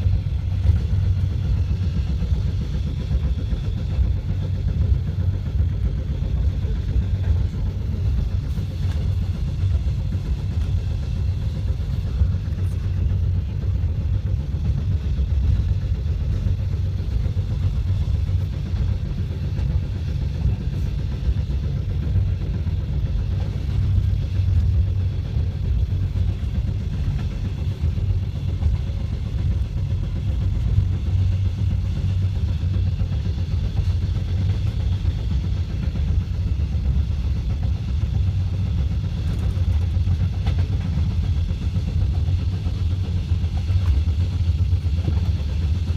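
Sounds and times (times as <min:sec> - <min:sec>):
passenger train rumbling: 0:00.0 - 0:45.9.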